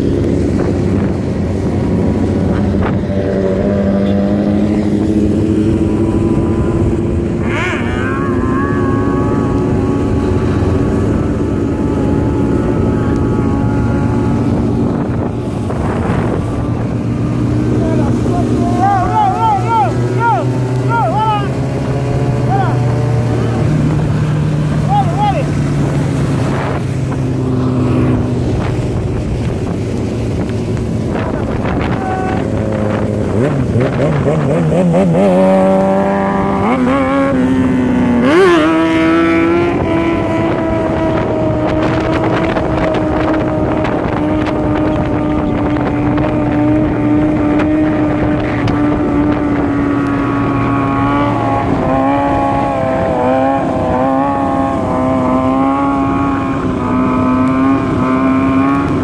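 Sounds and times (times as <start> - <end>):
motorcycle engine accelerating: 0.0 - 59.0
wind rush over microphone: 0.0 - 59.0.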